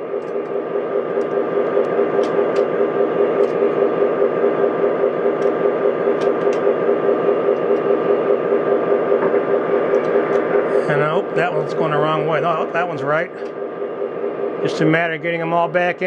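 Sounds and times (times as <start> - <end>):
pulsing electrical hum and hiss: 0.0 - 16.0.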